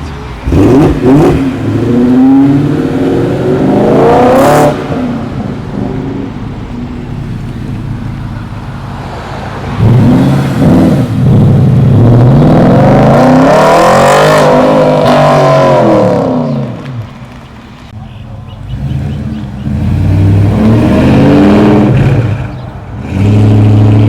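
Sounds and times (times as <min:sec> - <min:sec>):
car engine revving and passing: 0:00.4 - 0:17.4, 0:18.6 - 0:24.0.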